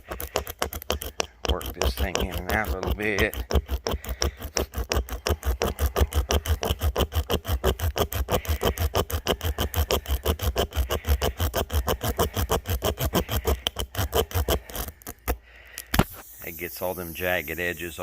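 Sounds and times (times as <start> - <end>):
reamer rasping through tire: 0.0 - 18.0.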